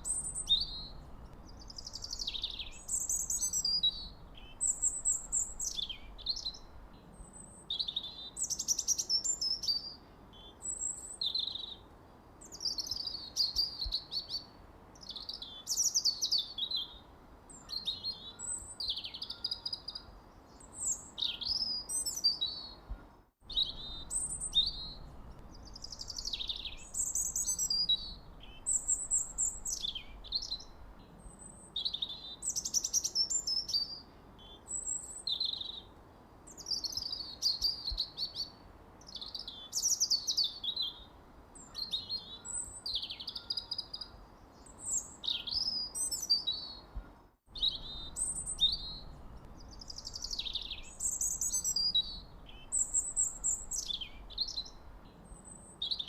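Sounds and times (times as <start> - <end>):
faint low hiss: 0.0 - 56.0
small birds chirping: 0.0 - 56.0.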